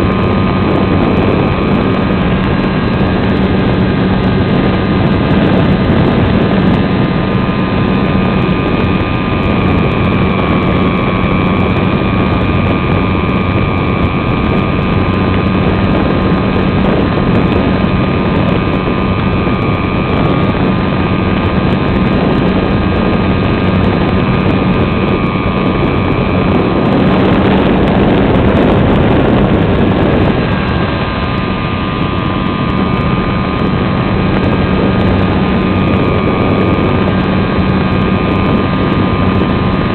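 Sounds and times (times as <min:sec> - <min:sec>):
electric motor whine: 0:00.0 - 0:39.9
wind rush over microphone: 0:00.0 - 0:39.9.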